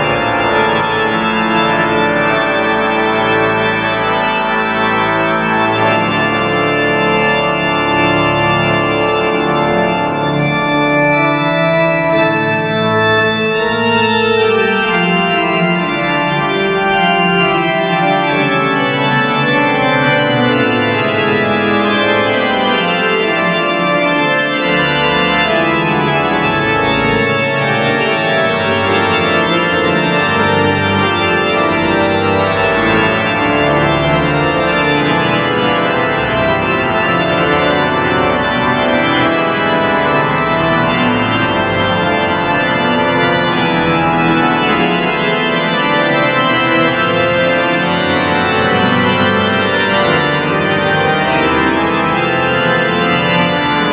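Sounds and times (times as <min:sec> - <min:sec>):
church organ chords: 0:00.0 - 0:53.9.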